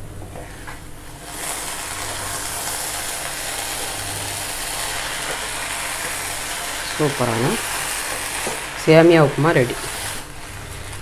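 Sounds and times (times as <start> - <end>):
food sizzling in a pan: 0.4 - 11.0.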